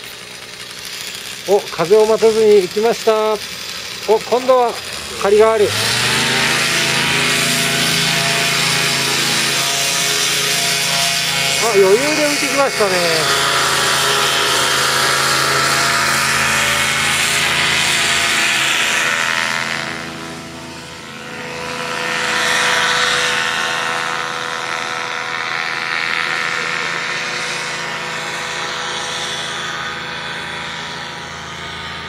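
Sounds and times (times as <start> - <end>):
paramotor engine drone: 0.0 - 32.0.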